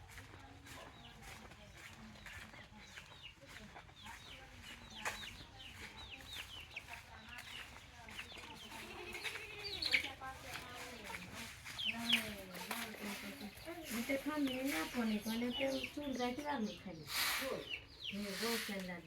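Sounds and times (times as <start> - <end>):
chickens peeping: 0.1 - 19.0.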